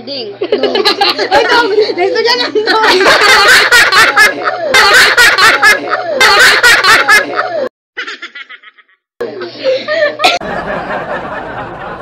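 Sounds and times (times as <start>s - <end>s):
people laughing loudly: 0.5s - 12.0s.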